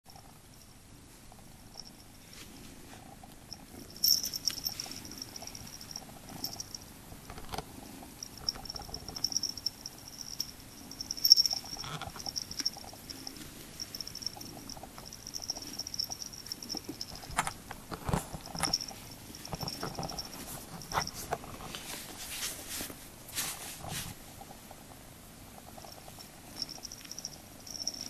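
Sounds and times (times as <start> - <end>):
kitten purring: 1.3 - 22.1, 23.8 - 28.0.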